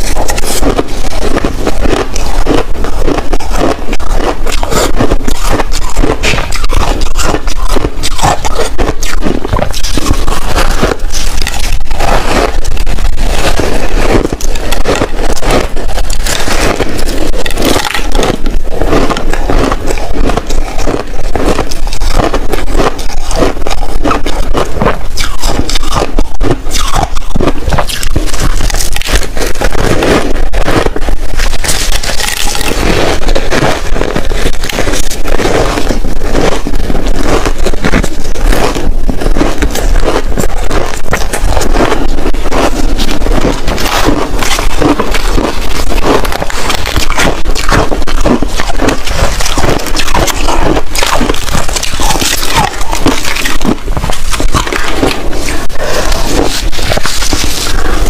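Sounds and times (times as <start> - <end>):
crunching shaved ice: 0.0 - 58.0.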